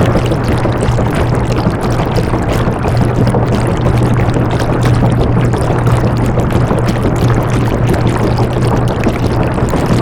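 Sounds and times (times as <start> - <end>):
low motor hum: 0.0 - 10.0
water sloshing in drum: 0.0 - 10.0.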